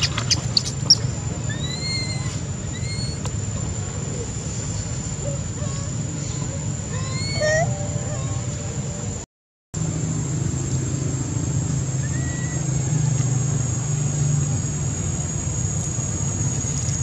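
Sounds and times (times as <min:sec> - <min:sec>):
thin high-pitched whine: 0:00.0 - 0:09.2, 0:09.8 - 0:17.0.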